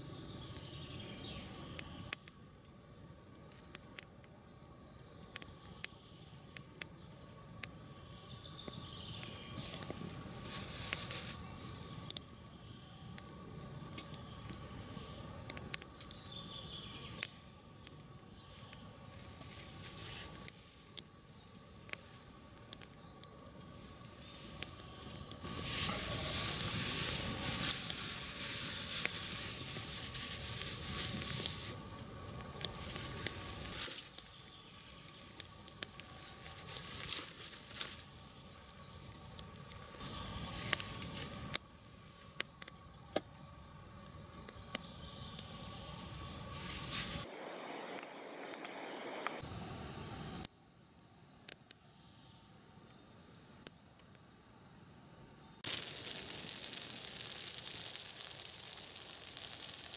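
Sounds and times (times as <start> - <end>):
wood fire crackling: 0.0 - 50.5, 55.6 - 59.9.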